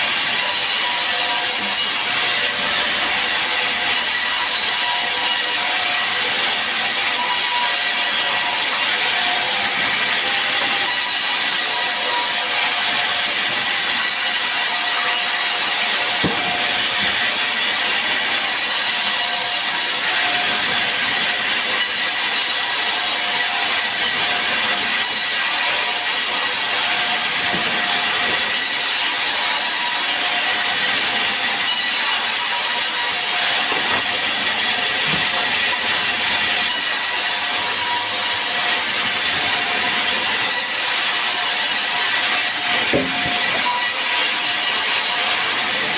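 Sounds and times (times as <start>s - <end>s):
sawmill saw running: 0.0s - 45.9s.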